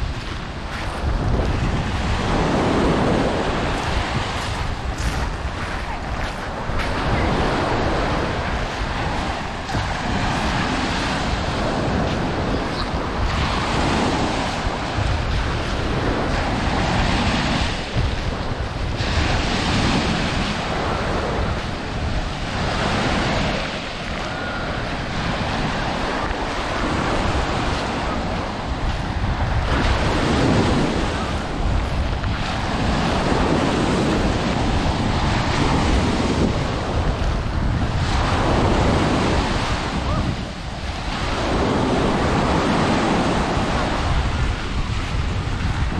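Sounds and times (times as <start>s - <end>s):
surf washing onto sandy beach: 0.0s - 45.9s
wind buffeting microphone: 0.0s - 45.9s.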